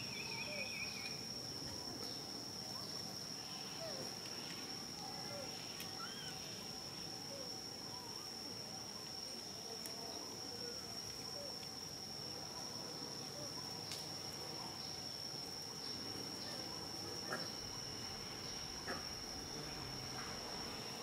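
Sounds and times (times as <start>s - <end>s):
high-pitched insect drone: 2.1s - 12.5s, 13.1s - 21.0s.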